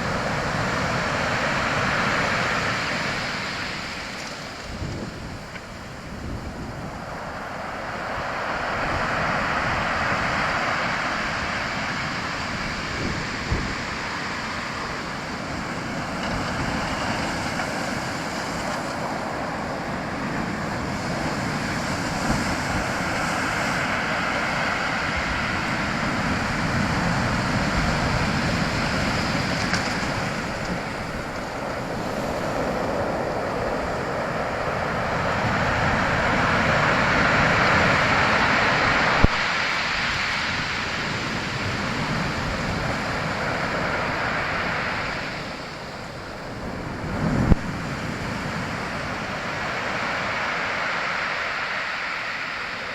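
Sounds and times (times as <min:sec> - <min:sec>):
sea waves breaking on shore: 0:00.0 - 0:52.9.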